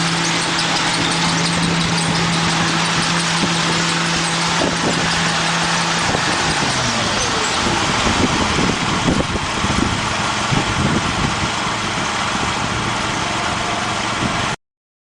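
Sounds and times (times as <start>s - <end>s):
combine engine running: 0.0s - 14.6s.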